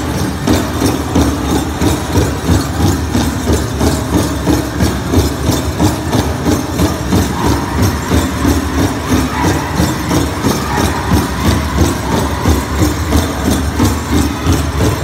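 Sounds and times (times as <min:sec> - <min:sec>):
drum beaten in steady rhythm: 0:00.0 - 0:15.0.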